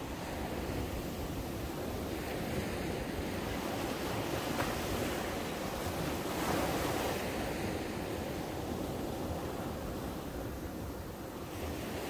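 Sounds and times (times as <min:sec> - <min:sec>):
small waves breaking on beach: 0:00.0 - 0:12.0.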